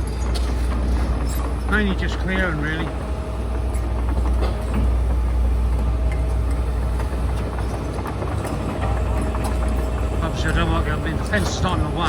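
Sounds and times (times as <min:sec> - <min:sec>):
faint steady whine: 0:00.0 - 0:12.0
heavy diesel engine rumbling: 0:00.0 - 0:12.0.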